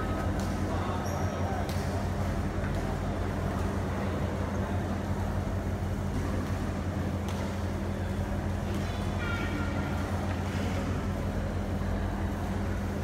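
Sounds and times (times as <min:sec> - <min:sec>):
low hum of sports hall: 0:00.0 - 0:13.0.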